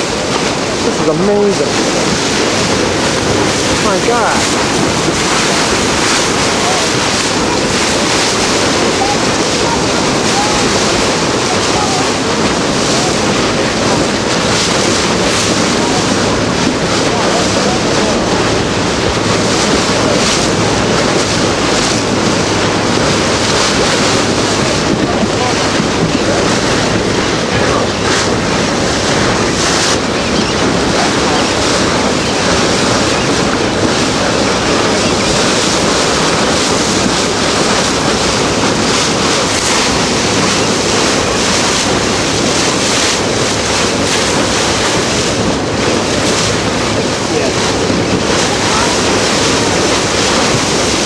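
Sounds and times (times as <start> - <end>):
sea water rushing: 0.0 - 51.0
wind noise on microphone: 0.0 - 51.0.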